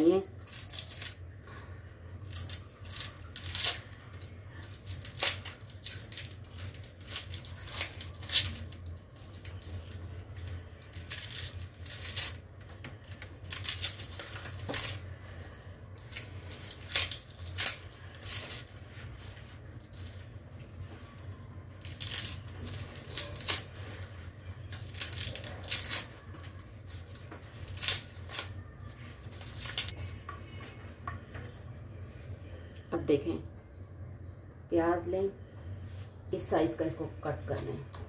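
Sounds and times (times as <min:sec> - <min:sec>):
onion skins crackling rustles: 0:00.0 - 0:30.9
low steady hum: 0:00.0 - 0:38.0.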